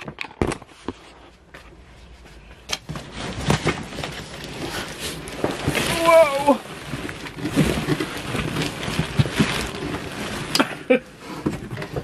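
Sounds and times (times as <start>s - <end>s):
handling rustling and knocking: 0.0s - 5.9s, 6.7s - 10.6s, 11.2s - 12.0s.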